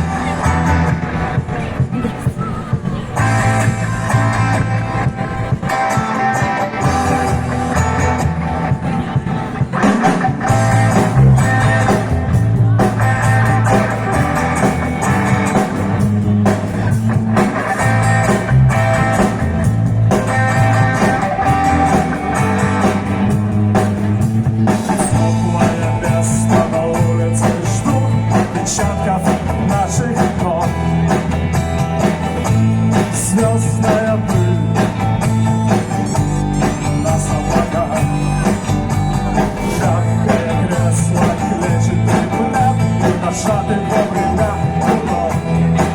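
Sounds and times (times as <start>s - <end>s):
live band playing: 0.0s - 45.9s.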